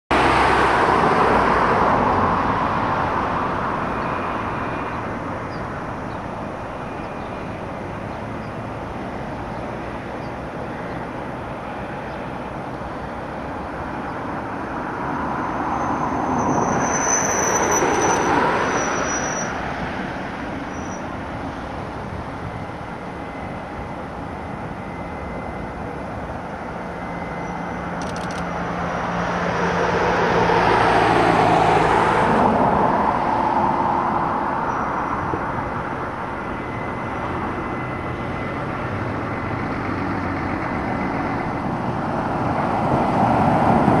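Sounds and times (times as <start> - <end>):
jet engines idling roar: 0.1 - 16.2, 17.4 - 30.5, 31.6 - 44.0.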